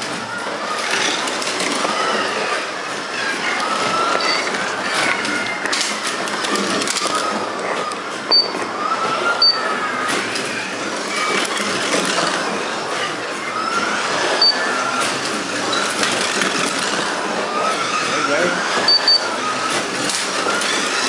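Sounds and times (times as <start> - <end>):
slot car motors whining: 0.0 - 21.0.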